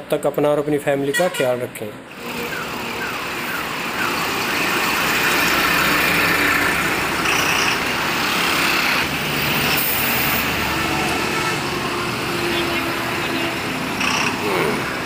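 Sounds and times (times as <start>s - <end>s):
road noise: 0.0s - 15.0s
truck diesel engine running: 2.1s - 15.0s.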